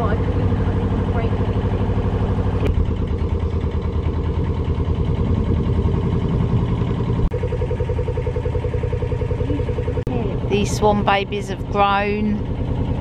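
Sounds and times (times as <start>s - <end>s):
boat diesel engine throbbing: 0.0s - 13.0s.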